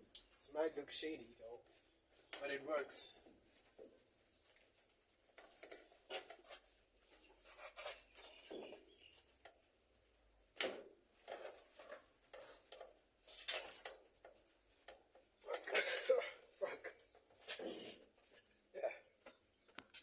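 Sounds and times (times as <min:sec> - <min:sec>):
rustling and scraping: 0:01.3 - 0:16.0, 0:16.8 - 0:20.0.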